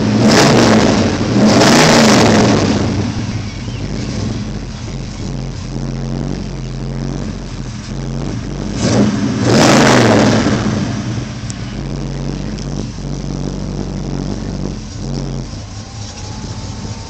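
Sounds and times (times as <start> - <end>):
car engine running at low revs: 0.0 - 17.0
loud rush of noise: 0.0 - 17.0.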